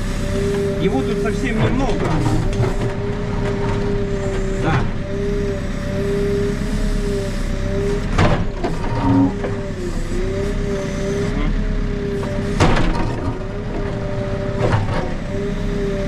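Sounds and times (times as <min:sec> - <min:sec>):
diesel engine running with whine: 0:00.0 - 0:16.0.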